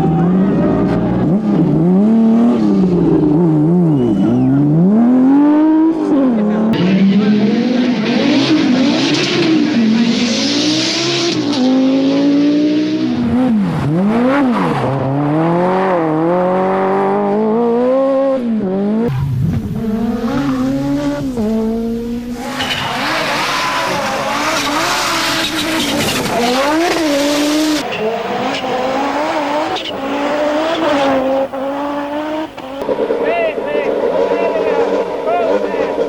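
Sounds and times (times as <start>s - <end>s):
rally car engines racing: 0.0s - 36.0s.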